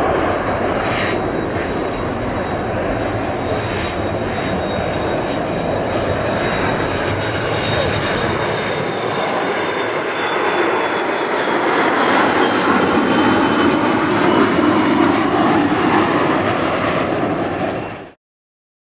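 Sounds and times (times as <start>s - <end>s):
jet engines roaring: 0.0s - 18.2s.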